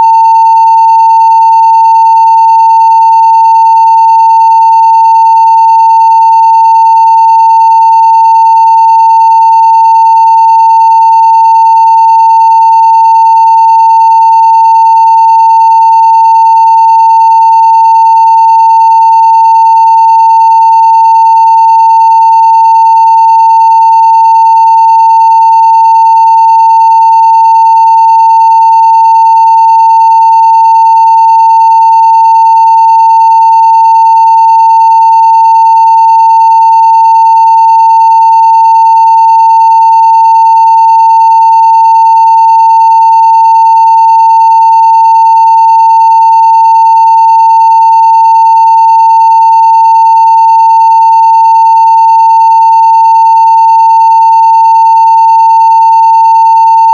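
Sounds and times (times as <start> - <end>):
steady sine wave test tone: 0.0 - 56.9.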